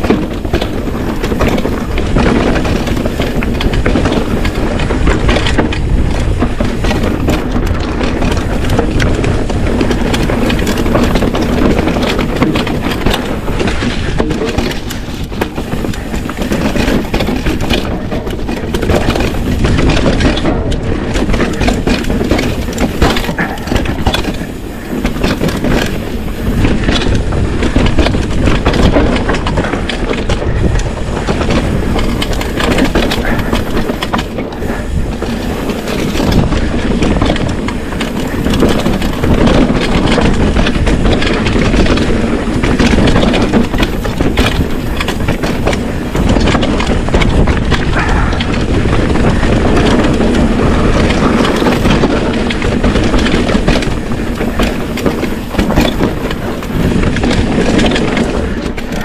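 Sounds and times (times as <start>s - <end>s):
bike rattling: 0.0s - 59.0s
tyres crunching over stones: 0.0s - 59.0s
wind rumble on microphone: 0.0s - 59.0s.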